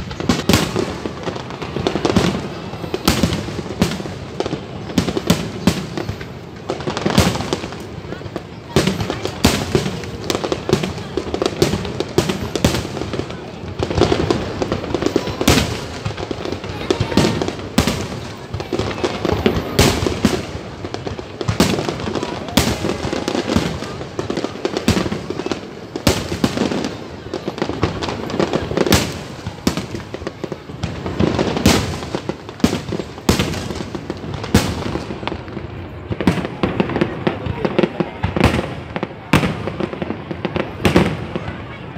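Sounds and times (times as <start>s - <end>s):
fireworks booming: 0.0s - 41.9s.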